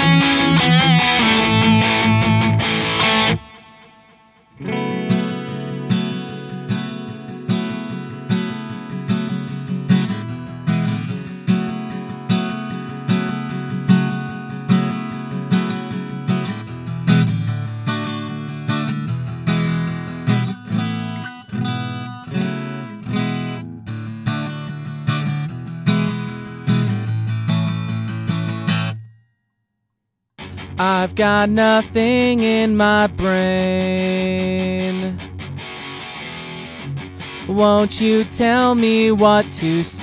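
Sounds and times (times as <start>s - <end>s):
acoustic guitar strummed: 0.0s - 29.4s, 30.4s - 40.0s.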